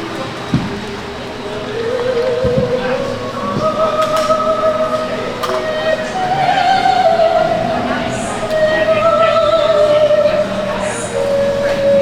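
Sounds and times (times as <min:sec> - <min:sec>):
accompanying music: 0:00.0 - 0:12.0
operatic high voice singing: 0:00.0 - 0:12.0.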